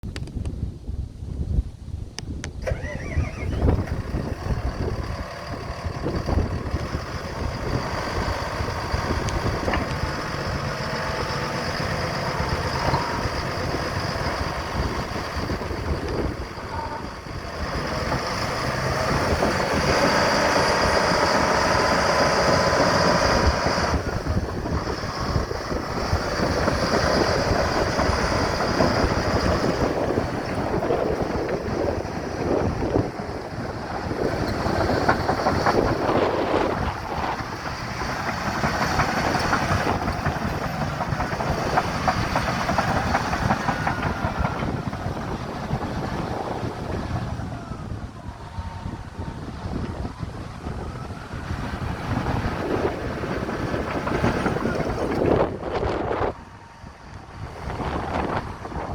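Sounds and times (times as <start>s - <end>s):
bulldozer diesel engine running: 2.3s - 58.9s.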